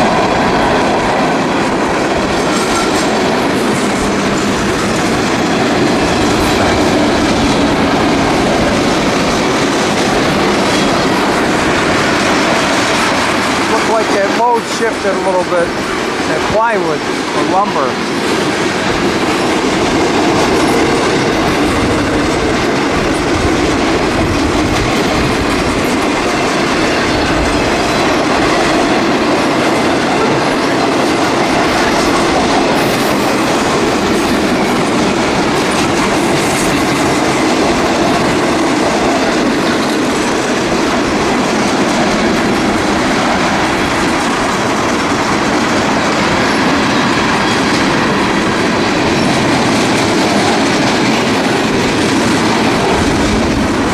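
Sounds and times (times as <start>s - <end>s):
freight train cars rolling: 0.0s - 53.9s
wheels clacking over rails: 0.0s - 53.9s.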